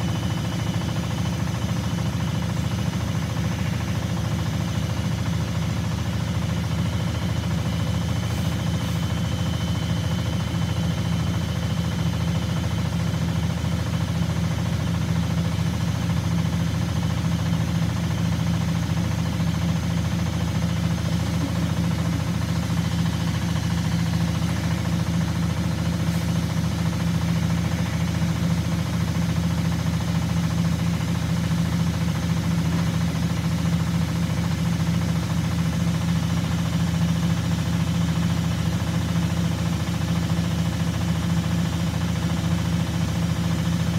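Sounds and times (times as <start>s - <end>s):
washing machine running: 0.0s - 43.9s.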